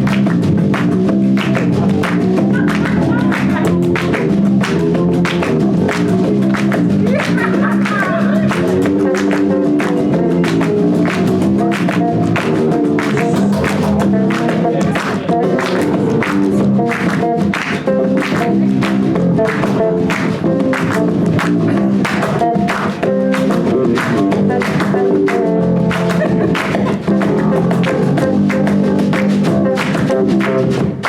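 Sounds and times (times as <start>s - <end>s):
drums beating: 0.0s - 31.0s
held instrumental notes: 0.0s - 31.0s.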